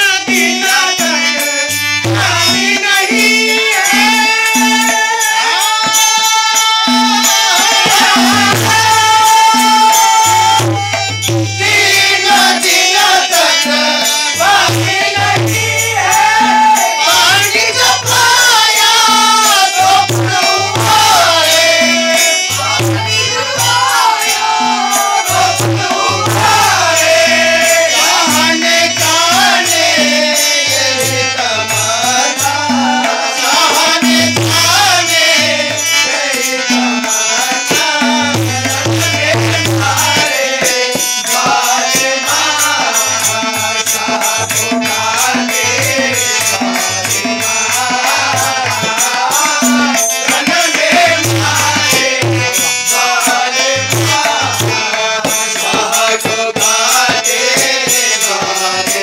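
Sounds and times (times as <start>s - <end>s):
group of men singing: 0.0s - 59.0s
harmonium: 0.0s - 59.0s
man singing lead: 0.0s - 59.0s
tabla strokes: 0.0s - 59.0s.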